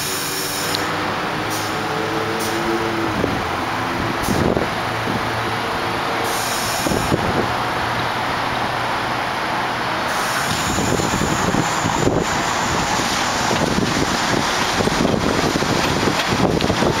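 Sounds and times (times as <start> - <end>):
subway train passing: 0.0 - 17.0.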